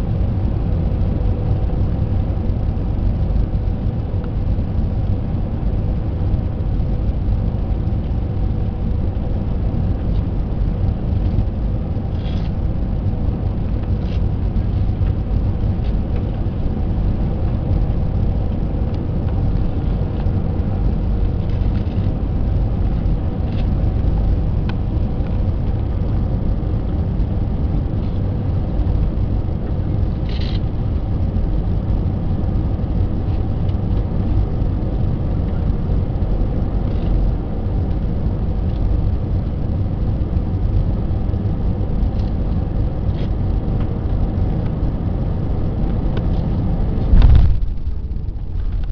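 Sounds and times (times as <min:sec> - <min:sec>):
faint steady hum: 0:00.0 - 0:48.9
jet cabin low rumble: 0:00.0 - 0:48.9.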